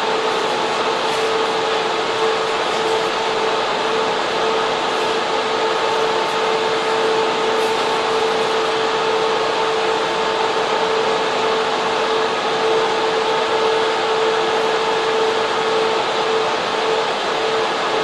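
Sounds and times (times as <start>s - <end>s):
cooling fans rushing and whining: 0.0s - 18.0s.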